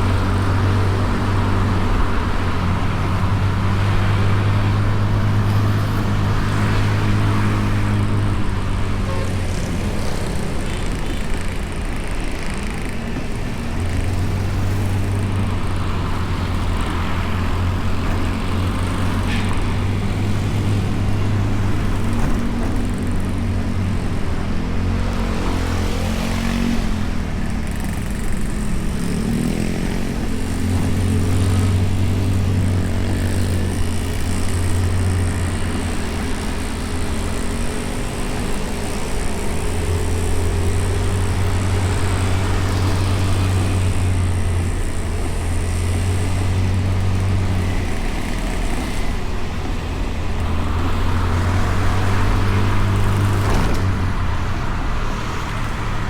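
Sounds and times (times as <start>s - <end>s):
scooter engine running: 0.0s - 56.0s
traffic noise: 0.0s - 56.0s.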